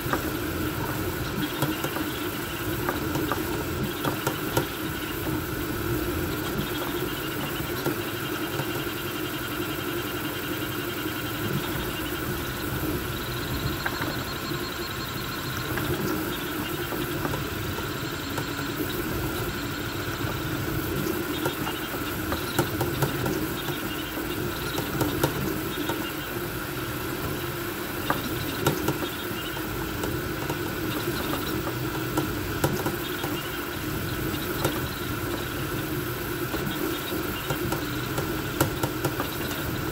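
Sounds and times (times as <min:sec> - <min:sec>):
cooling fans humming: 0:00.0 - 0:39.9.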